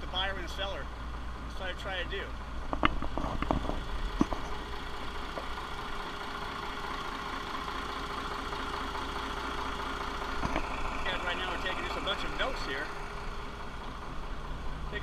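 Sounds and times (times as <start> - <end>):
marine diesel engine idling: 0.0 - 15.0.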